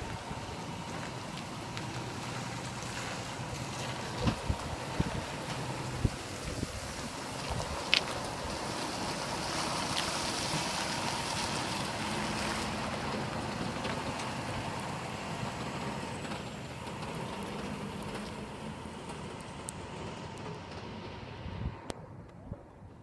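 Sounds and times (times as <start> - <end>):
diesel truck engine running: 0.0 - 22.3.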